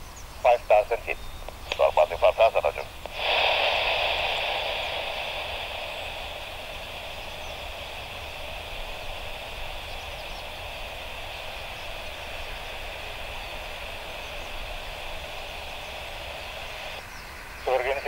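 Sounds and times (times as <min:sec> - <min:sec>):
radio channel hiss: 0:00.0 - 0:18.0.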